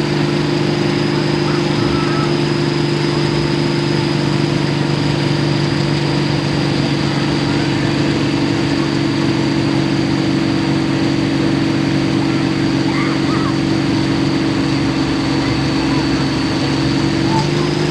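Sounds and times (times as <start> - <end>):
tractor engine idling: 0.0 - 17.9.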